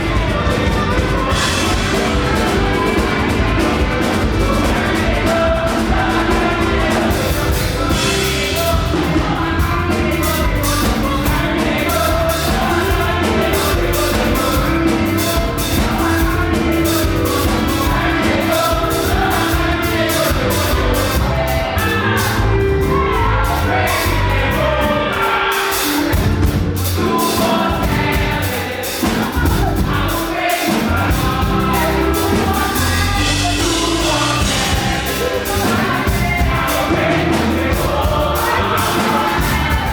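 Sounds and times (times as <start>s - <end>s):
group singing gospel with band: 0.0s - 39.9s.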